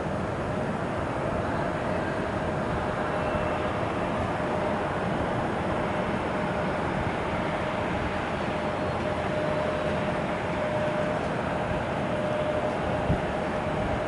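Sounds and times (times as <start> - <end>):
jet airliner running noise: 0.0 - 14.0.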